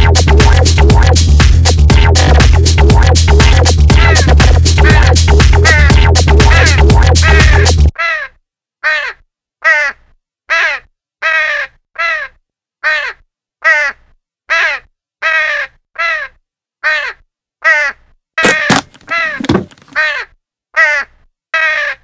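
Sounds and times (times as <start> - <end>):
gull calling harshly: 3.4 - 22.0.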